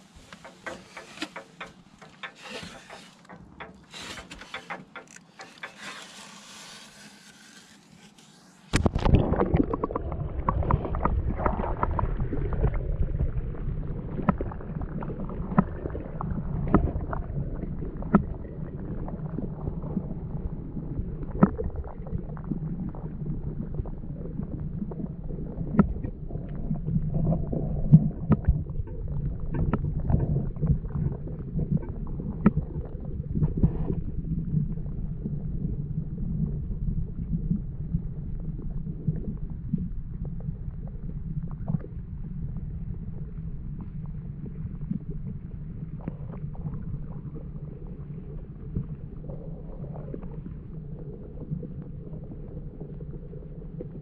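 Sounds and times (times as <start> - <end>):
muffled underwater water rumble: 8.7 - 54.0.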